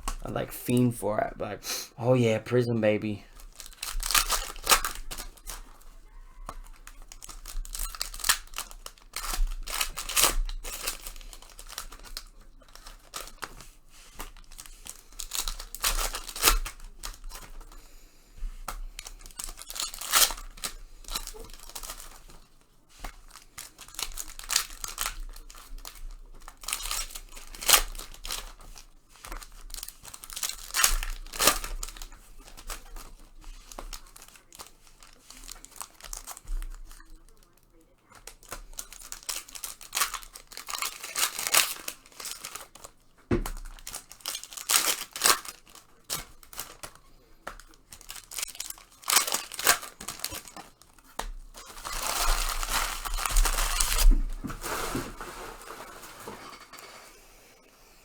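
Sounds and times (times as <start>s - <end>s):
card pack wrappers crinkling: 0.0s - 57.7s
wrapper ripping: 2.8s - 17.9s, 18.5s - 56.8s.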